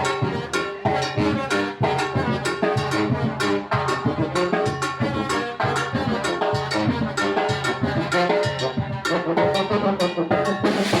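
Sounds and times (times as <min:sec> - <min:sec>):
steady drum beat: 0:00.0 - 0:11.0
trumpets playing tune: 0:00.0 - 0:11.0.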